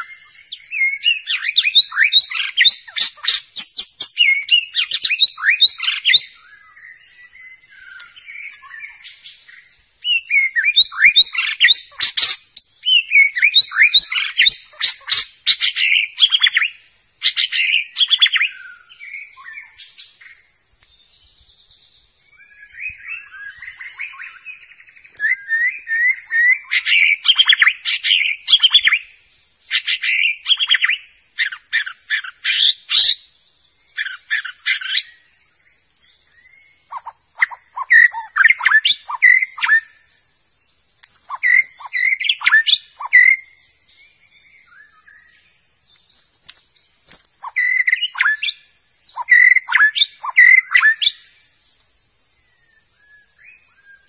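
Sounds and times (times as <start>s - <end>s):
bird singing trills and whistles: 0.0s - 54.0s.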